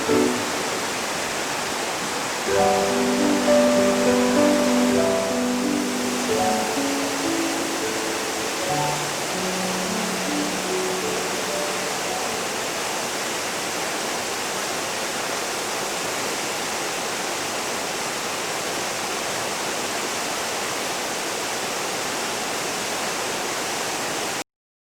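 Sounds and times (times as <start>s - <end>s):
waterfall rushing: 0.0s - 24.4s.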